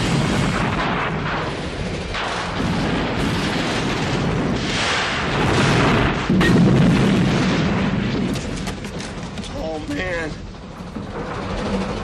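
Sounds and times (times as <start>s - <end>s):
train crash rumble: 0.0s - 12.0s.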